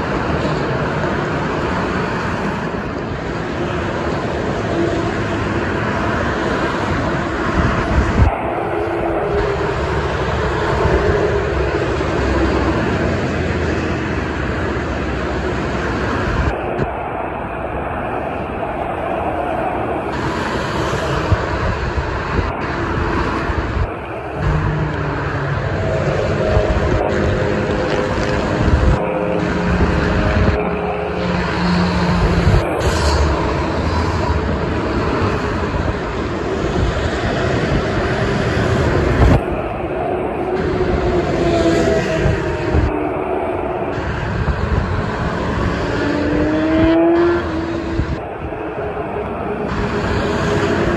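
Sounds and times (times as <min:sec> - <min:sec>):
trucks rumbling past: 0:00.0 - 0:16.9, 0:19.8 - 0:50.9
highway traffic roar: 0:00.0 - 0:50.9.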